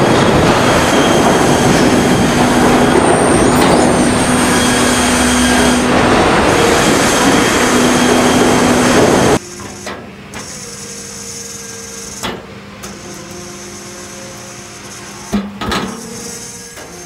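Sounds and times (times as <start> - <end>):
mechanical hum of conveyor: 0.0 - 17.0.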